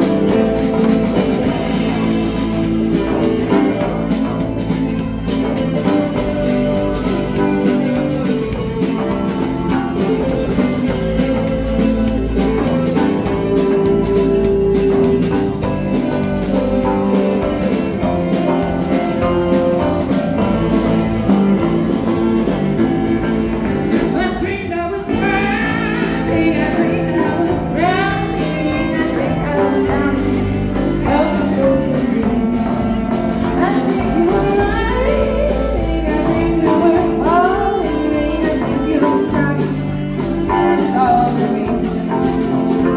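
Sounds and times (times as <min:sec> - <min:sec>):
lead guitar bending notes: 0:00.0 - 0:42.9
live band music: 0:00.0 - 0:42.9.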